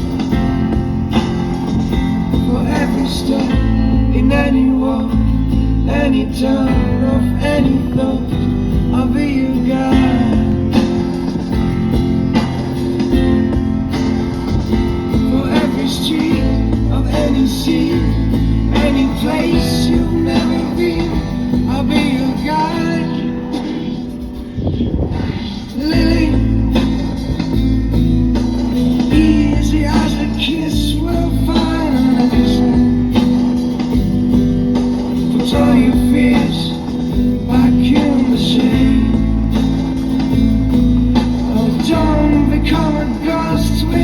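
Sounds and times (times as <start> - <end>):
person singing: 0.0 - 34.0, 34.9 - 40.5, 41.2 - 44.0
acoustic guitar song: 0.0 - 44.0
bass line: 0.0 - 44.0.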